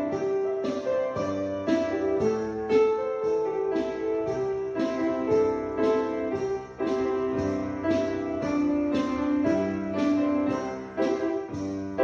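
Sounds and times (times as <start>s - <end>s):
slow solo piano melody: 0.0s - 12.0s.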